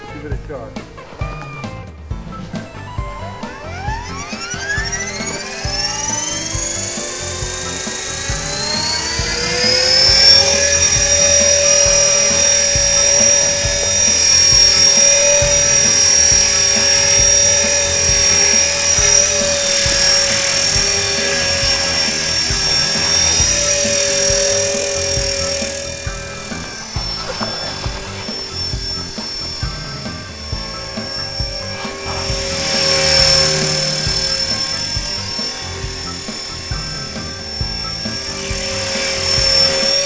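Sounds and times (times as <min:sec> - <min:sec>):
helicopter rotor whine: 0:00.0 - 0:40.0.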